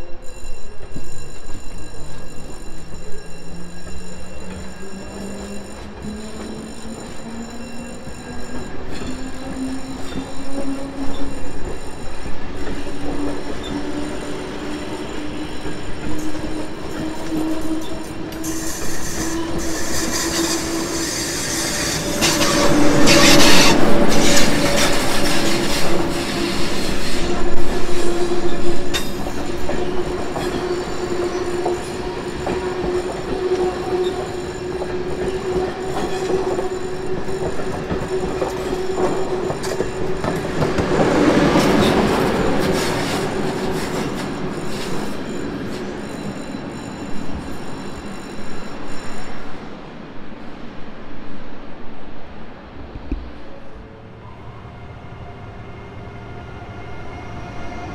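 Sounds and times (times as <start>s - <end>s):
train wheels squealing: 0.0s - 50.1s, 54.2s - 57.9s.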